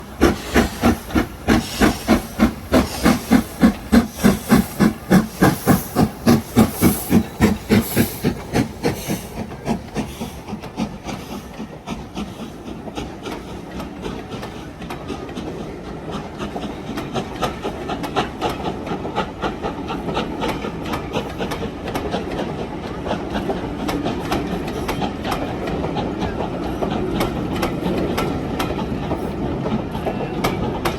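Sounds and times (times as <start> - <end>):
steam hissing: 0.0 - 30.9
steam locomotive chuffing: 0.0 - 30.9
wheels clattering on rails: 0.0 - 30.9.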